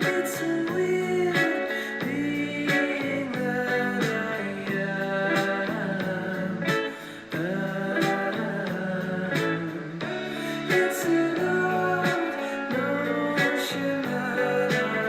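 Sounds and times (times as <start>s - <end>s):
song with guitar and beat: 0.0s - 15.0s.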